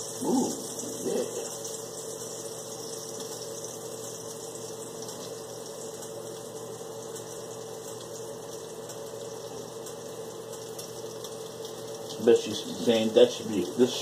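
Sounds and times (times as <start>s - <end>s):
air conditioner hum and hiss: 0.0s - 14.0s.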